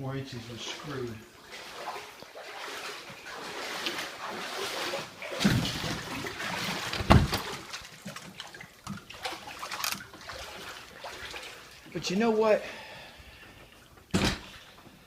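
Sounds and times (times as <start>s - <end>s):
floodwater sloshing and splashing: 0.2s - 15.0s.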